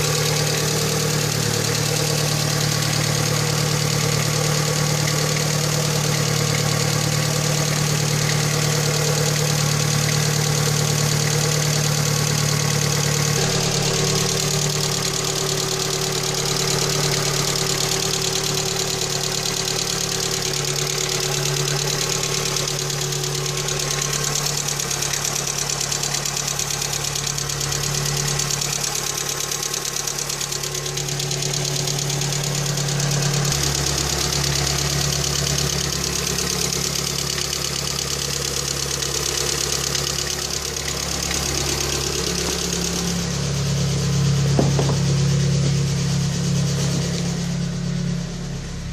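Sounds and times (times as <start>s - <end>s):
car engine running with knock: 0.0s - 48.9s.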